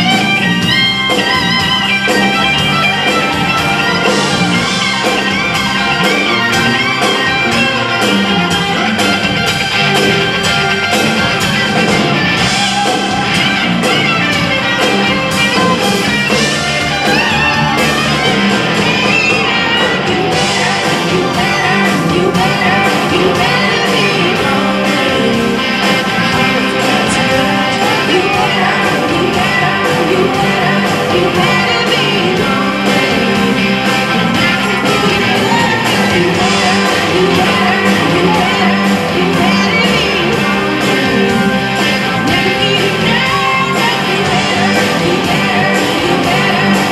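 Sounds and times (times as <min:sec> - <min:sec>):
distorted electric guitar: 0:00.0 - 0:46.9
drum kit: 0:00.0 - 0:46.9
woman singing: 0:00.2 - 0:46.9.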